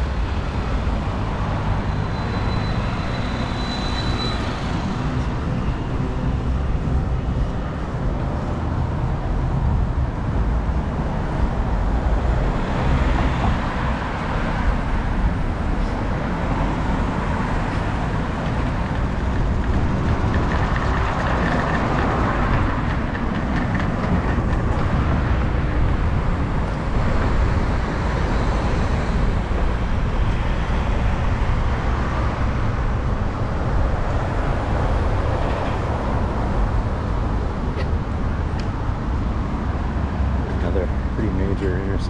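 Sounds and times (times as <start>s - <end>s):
bicycle riding rumble: 4.6s - 42.0s.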